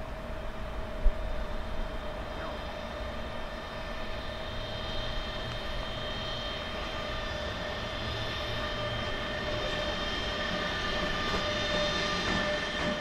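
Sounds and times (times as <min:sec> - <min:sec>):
electric locomotive whine: 0:00.0 - 0:13.0.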